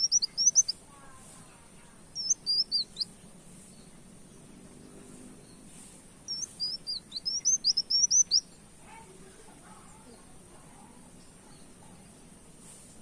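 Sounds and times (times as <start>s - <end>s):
sunbird chirping: 0.0s - 12.4s.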